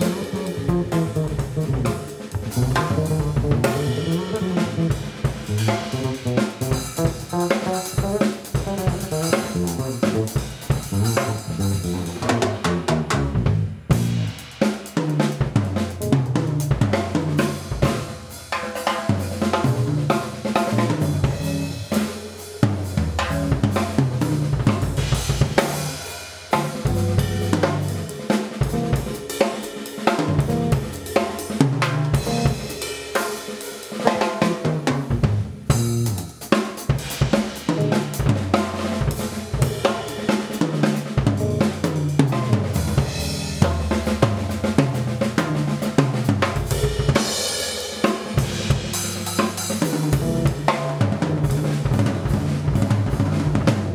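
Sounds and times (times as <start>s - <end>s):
drum solo: 0.0s - 53.9s.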